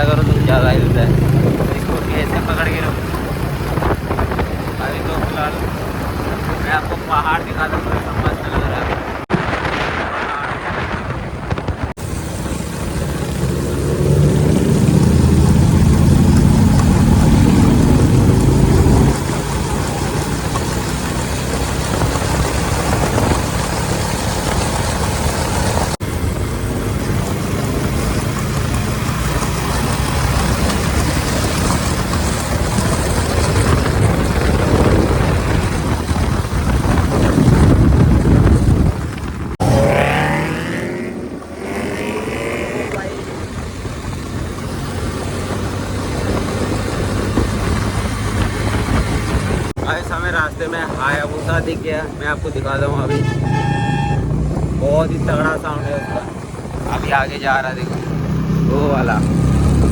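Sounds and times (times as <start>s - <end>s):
motorcycle engine running: 0.0s - 9.3s, 10.8s - 51.2s, 52.8s - 59.9s
wind and road noise: 0.0s - 59.9s.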